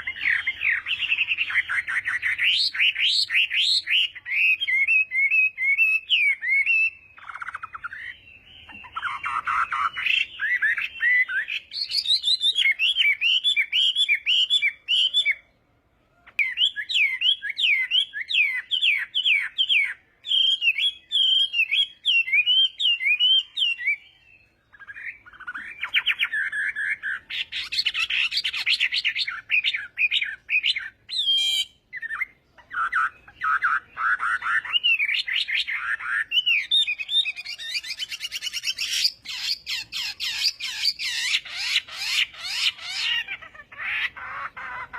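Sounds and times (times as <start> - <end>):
bird singing whistled notes: 0.0 - 44.9.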